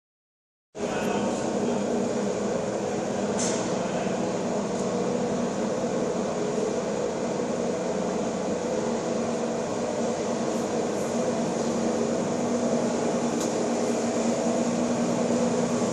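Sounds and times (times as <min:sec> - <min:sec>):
diesel locomotive engine droning: 0:00.8 - 0:15.9.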